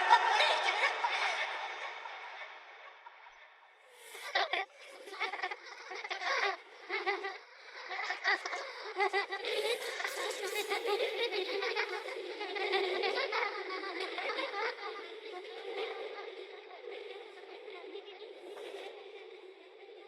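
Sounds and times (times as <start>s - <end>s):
children laughing with reverb: 0.0s - 16.6s.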